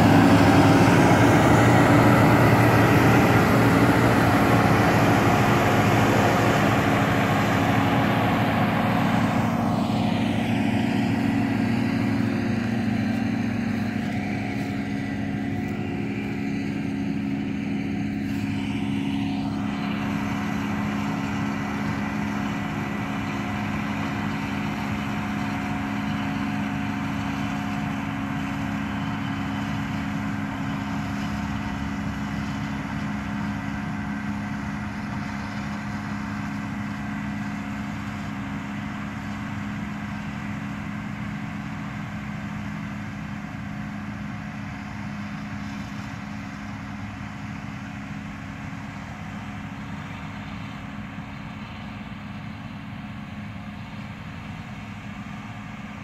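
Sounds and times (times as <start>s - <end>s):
windrower engine humming: 0.0s - 56.0s.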